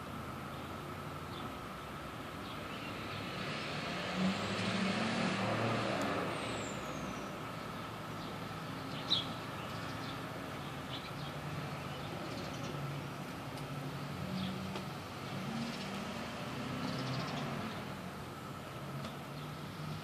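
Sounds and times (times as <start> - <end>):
vehicle passing: 2.6 - 20.0.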